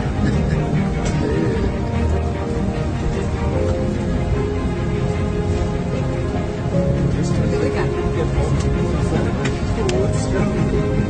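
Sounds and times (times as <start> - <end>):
music with held notes and bass: 0.0 - 11.0.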